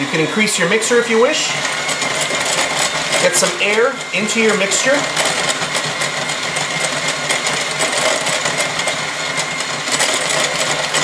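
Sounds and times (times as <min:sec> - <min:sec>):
electric hand mixer whirring: 0:00.0 - 0:11.0.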